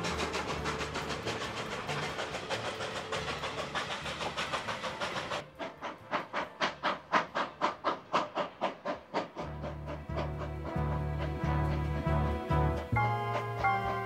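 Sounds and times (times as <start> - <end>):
steam locomotive exhaust chuffs: 0.0 - 14.0
train running fast even beat: 0.0 - 14.0.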